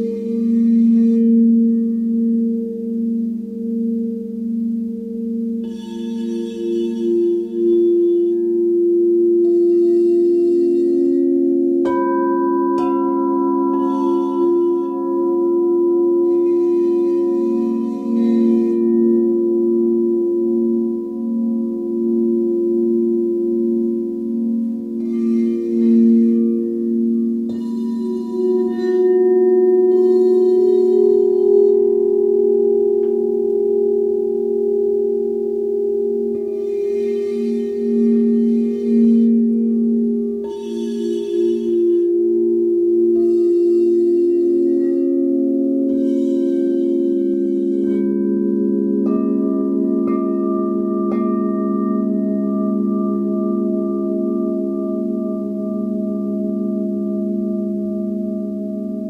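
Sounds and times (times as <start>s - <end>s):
bowl struck: 0.0s - 59.0s
crystal singing bowls ringing: 0.0s - 59.0s.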